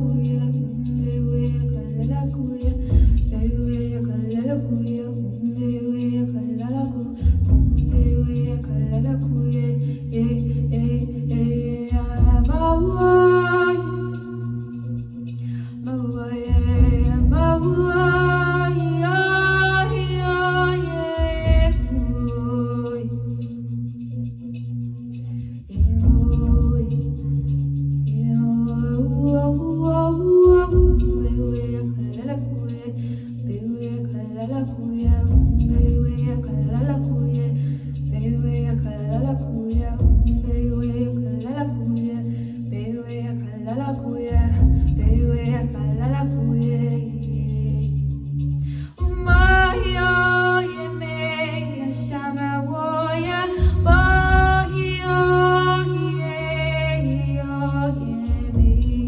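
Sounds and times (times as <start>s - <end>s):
woman singing wordless vocals: 0.0s - 23.7s, 25.7s - 59.0s
low bass line: 0.0s - 59.0s.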